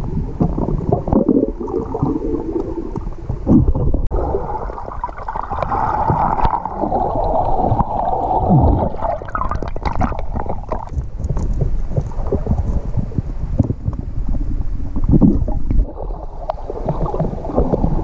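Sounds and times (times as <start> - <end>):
underwater sloshing and bubbles: 0.0 - 18.0.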